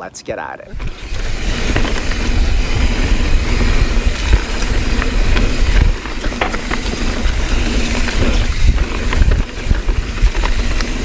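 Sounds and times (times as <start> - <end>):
tyres rolling over dirt: 0.7 - 11.0
wind rushing over microphone: 0.7 - 11.0
bike clicks and knocks: 0.8 - 11.0.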